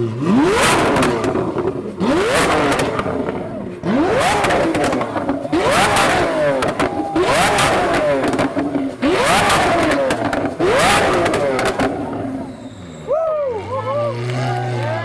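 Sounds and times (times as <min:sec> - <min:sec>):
car engine revving hard: 0:00.0 - 0:15.0
exhaust crackles: 0:00.0 - 0:15.0.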